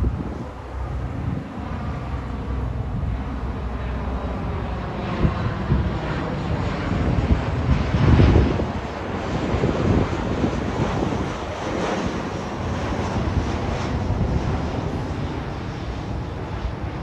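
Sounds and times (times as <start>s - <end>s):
jet airliner passing overhead: 0.0s - 17.0s
wind buffeting microphone: 0.0s - 17.0s.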